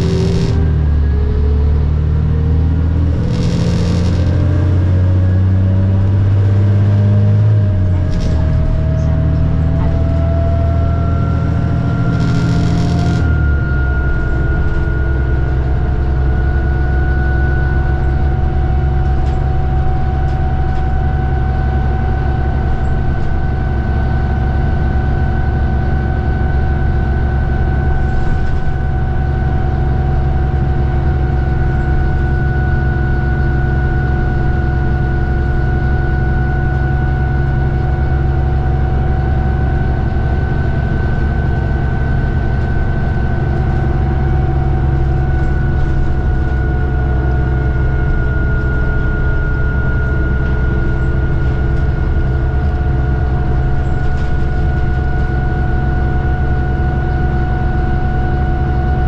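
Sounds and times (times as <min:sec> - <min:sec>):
bus engine rumbling: 0:00.0 - 0:59.0
bus whine: 0:00.0 - 0:59.0.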